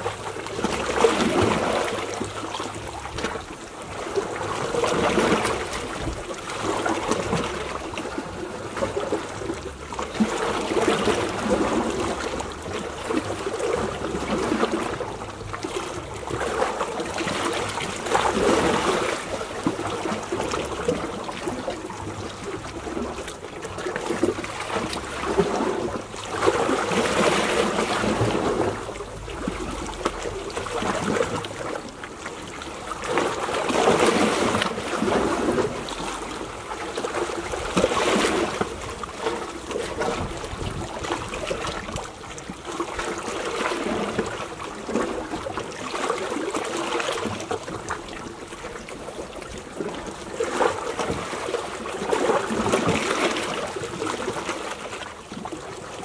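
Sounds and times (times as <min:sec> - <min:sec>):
waves lapping on rocks: 0:00.0 - 0:56.0.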